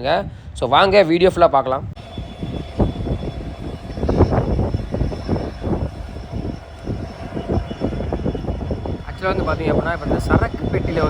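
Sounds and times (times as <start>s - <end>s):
train rumbling on a bridge: 1.4s - 11.0s.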